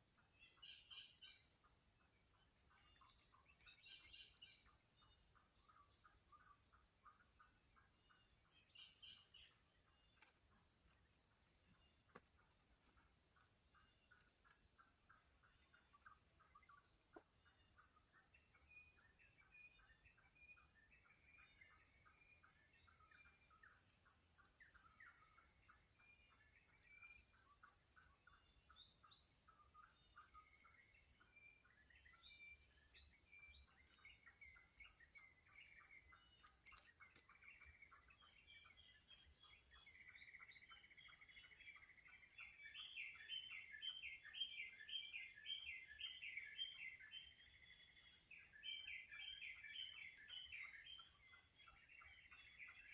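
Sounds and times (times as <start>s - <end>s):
insects droning: 0.0s - 52.9s
small birds chirping: 0.0s - 52.9s.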